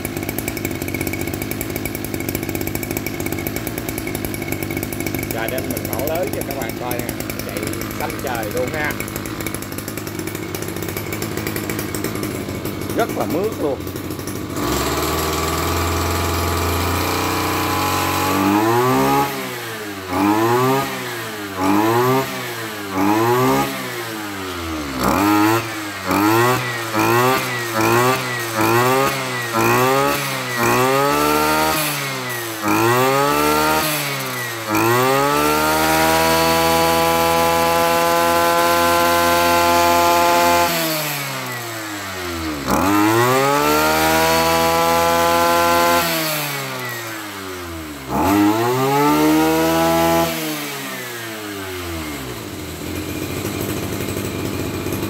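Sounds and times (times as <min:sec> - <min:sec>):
brush cutter engine revving: 0:00.0 - 0:55.0.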